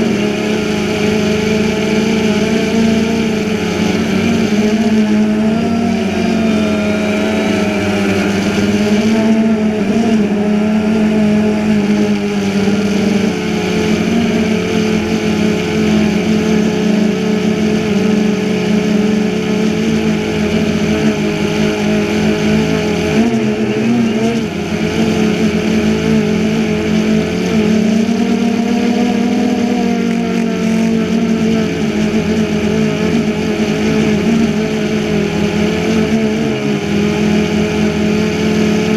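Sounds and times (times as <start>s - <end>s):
drone propellers humming: 0.0s - 38.9s.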